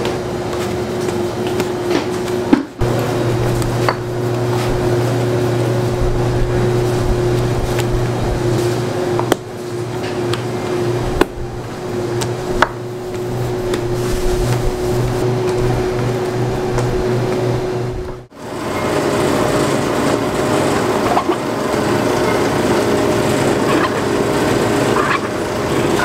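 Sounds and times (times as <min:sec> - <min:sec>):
machine hum with pulsing tone: 0:00.0 - 0:26.0.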